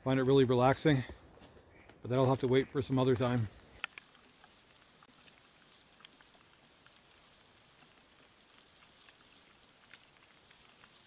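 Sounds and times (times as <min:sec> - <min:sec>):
wet snow pattering: 0:00.0 - 0:11.0.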